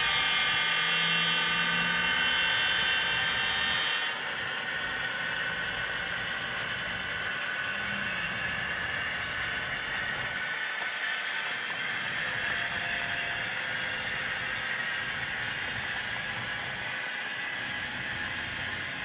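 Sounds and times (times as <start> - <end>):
high whine: 0.8 - 19.0.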